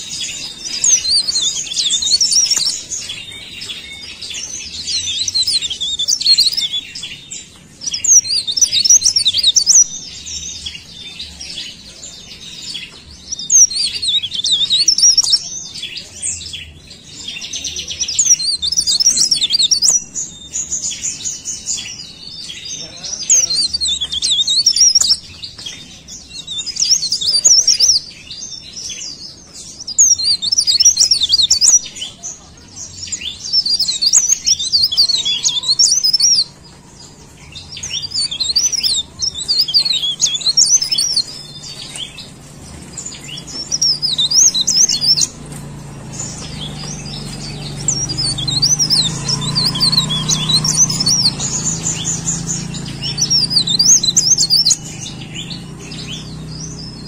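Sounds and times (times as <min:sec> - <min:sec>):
bird twittering song: 0:00.0 - 0:57.0.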